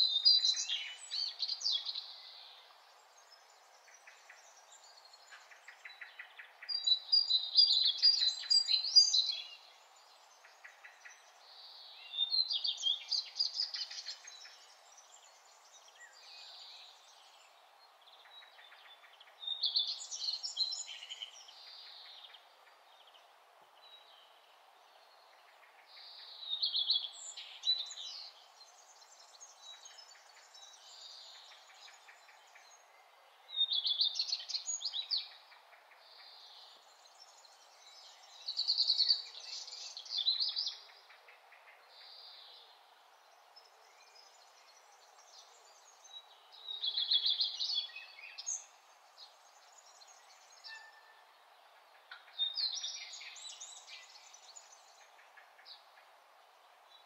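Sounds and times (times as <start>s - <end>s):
background hiss: 0.0s - 57.0s
songbird chirps and trills: 0.0s - 57.0s.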